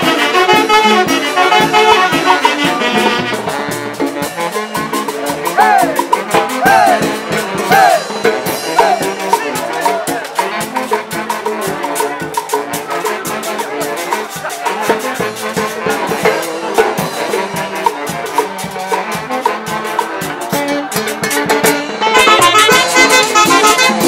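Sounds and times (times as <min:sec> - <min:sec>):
street band playing festive tune: 0:00.0 - 0:24.0
percussive beat: 0:01.4 - 0:24.0.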